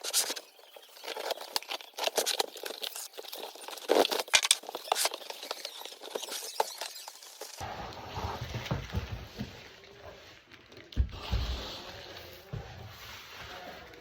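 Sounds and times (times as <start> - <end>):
packaging crinkling and scraping: 0.0 - 12.2.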